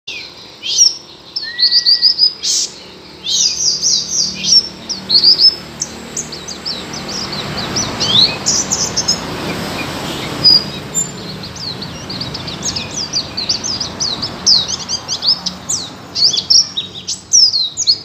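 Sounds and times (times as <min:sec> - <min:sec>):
bird chirping song: 0:00.1 - 0:18.0.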